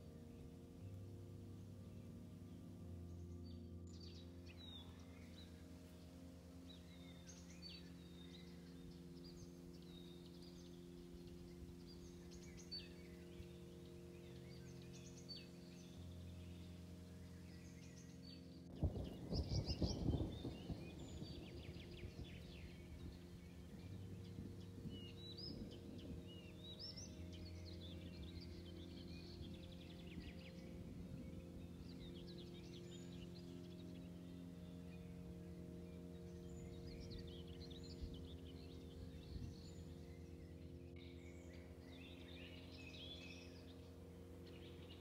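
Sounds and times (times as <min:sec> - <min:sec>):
faint steady hum: 0:00.0 - 0:45.0
low rumble with crackle: 0:00.0 - 0:45.0
small birds chirping: 0:00.0 - 0:45.0.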